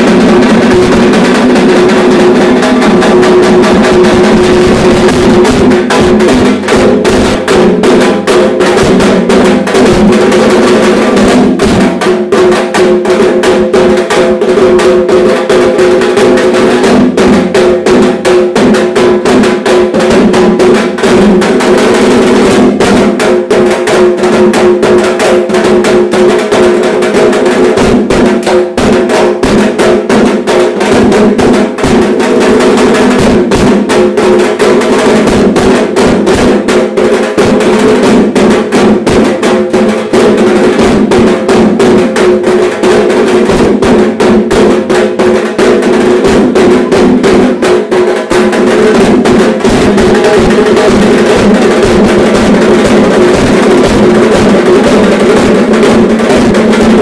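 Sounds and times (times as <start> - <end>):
barrel drum beaten fast: 0.0 - 57.0.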